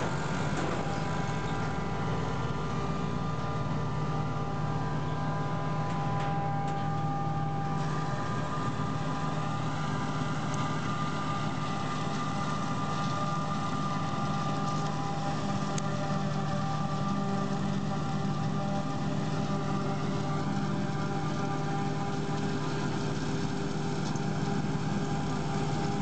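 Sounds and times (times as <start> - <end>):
tractor engine drone: 0.0 - 26.0.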